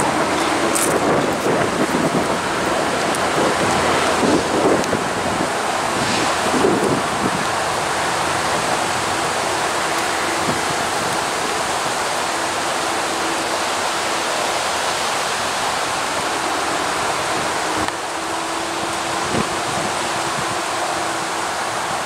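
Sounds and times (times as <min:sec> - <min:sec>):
wind on microphone: 0:00.0 - 0:13.5, 0:15.4 - 0:22.0
diesel locomotive hum: 0:00.0 - 0:22.0.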